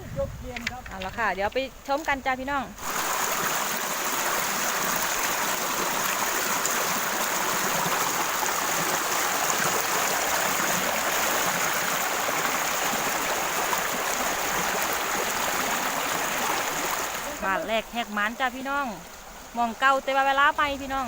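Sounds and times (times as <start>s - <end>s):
water rushing: 0.6s - 21.0s.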